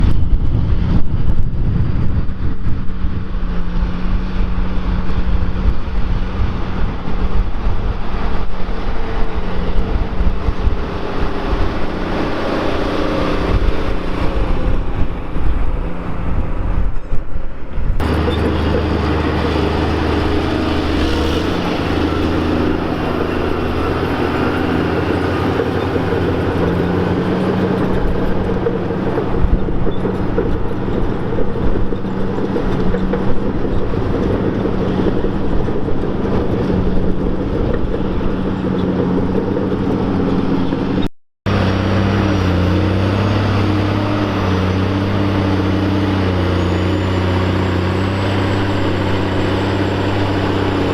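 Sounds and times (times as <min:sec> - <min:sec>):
tractor engine running hard: 0:00.0 - 0:50.9.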